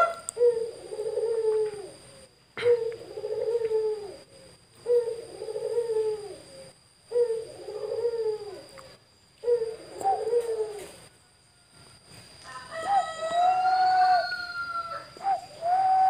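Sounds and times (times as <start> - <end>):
dove cooing: 0.0 - 11.1, 12.5 - 16.0.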